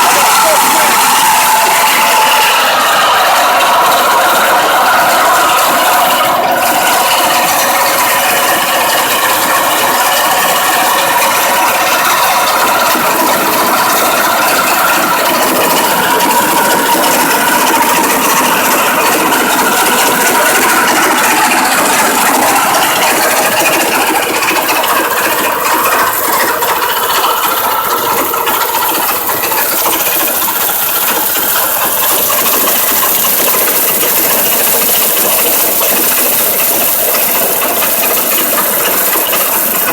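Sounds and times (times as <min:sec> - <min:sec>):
harvesting machine running: 0:00.0 - 0:39.9.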